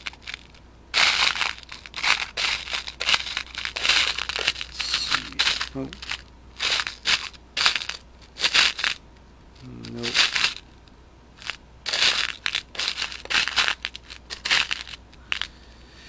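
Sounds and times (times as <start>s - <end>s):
small screws and nuts rattling: 0.0s - 9.0s, 9.6s - 15.6s.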